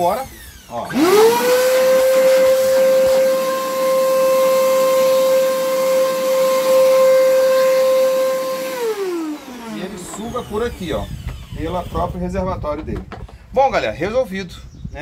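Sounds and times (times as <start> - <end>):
vacuum cleaner motor whining: 0.0 - 12.2.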